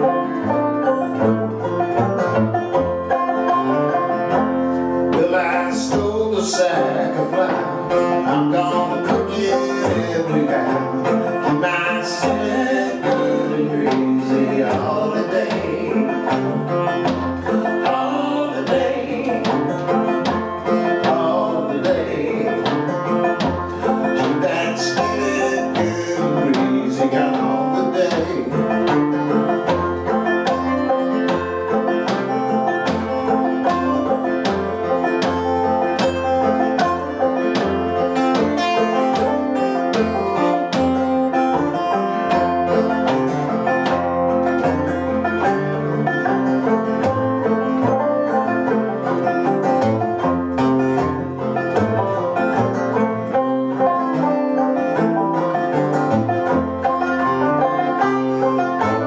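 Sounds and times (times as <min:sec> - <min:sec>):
acoustic guitar: 0:00.0 - 0:59.0
banjo: 0:00.0 - 0:59.0.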